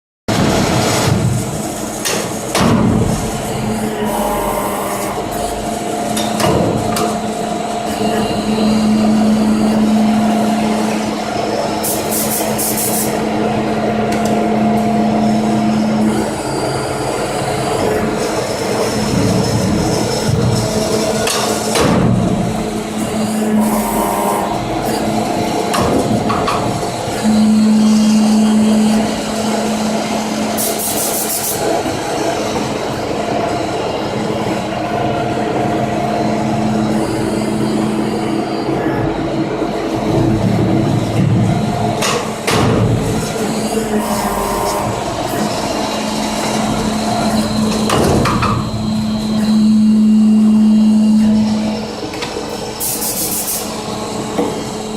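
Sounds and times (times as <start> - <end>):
mechanical machine noise: 0.3 - 54.9
pump unit hum: 0.3 - 54.9.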